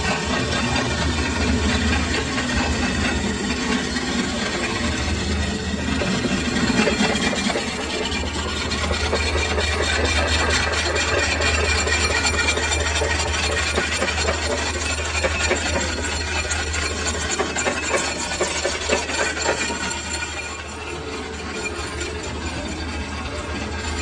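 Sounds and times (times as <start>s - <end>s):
metal lathe humming: 0.0s - 24.0s
tool scraping turning metal: 0.0s - 24.0s.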